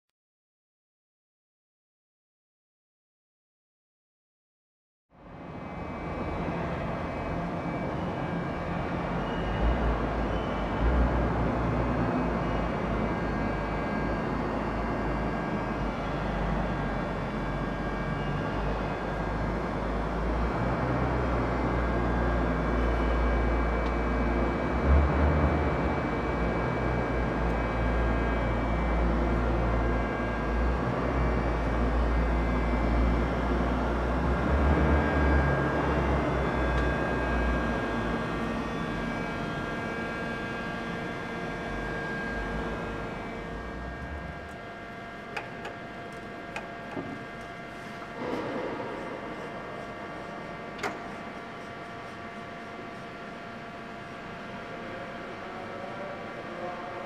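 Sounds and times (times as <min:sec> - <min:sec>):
steady mechanical hum: 0:05.1 - 0:57.0.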